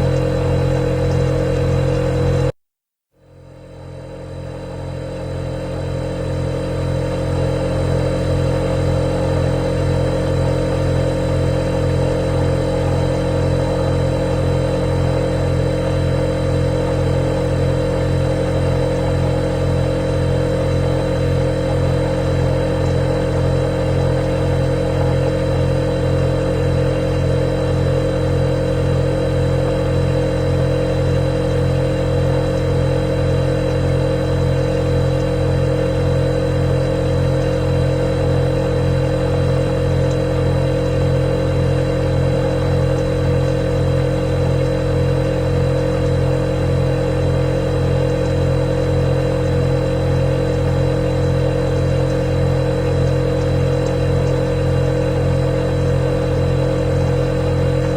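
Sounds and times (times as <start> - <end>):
refrigerator motor hum: 0.0 - 2.6, 3.2 - 57.9.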